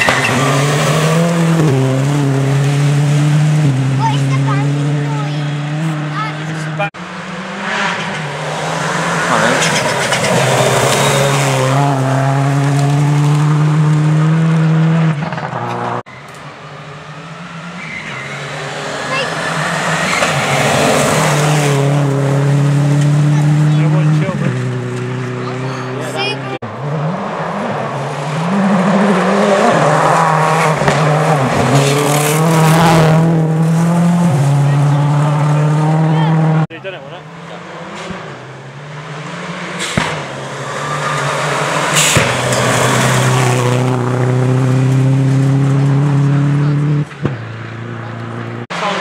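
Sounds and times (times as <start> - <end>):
rally car engine at high revs: 0.0 - 16.1, 16.8 - 49.0
distant car engine: 0.0 - 49.0.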